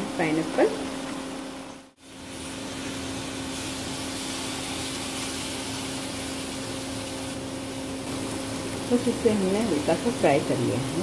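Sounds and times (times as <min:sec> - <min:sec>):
constant low hum: 0:00.0 - 0:11.0
fruit sizzling in butter: 0:01.6 - 0:11.0.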